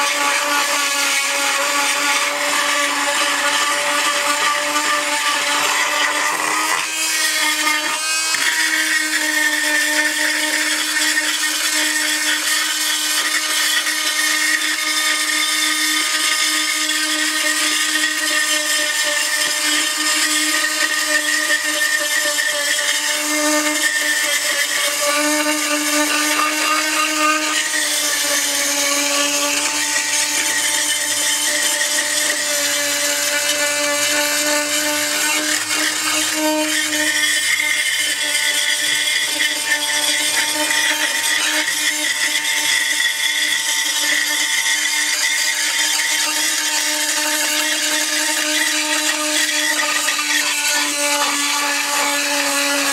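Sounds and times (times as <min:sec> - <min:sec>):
oscillating tool grinding grout: 0:00.0 - 0:52.9.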